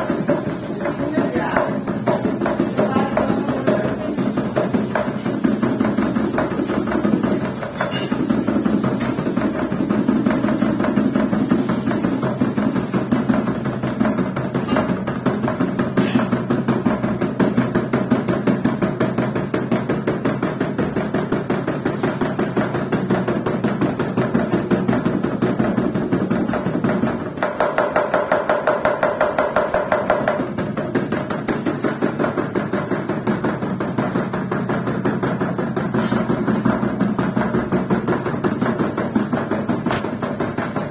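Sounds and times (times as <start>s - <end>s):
washing machine drum knocking: 0.0s - 40.9s.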